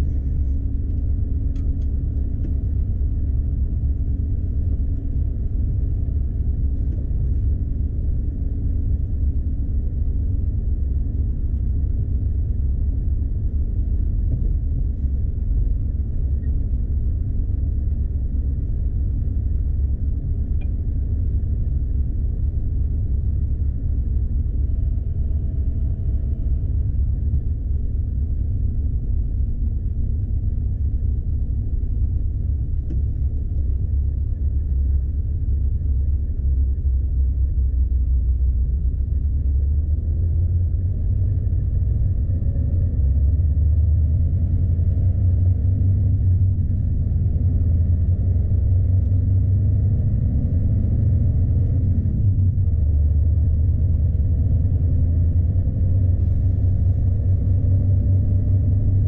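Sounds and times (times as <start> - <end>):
road rumble: 0.0 - 59.0.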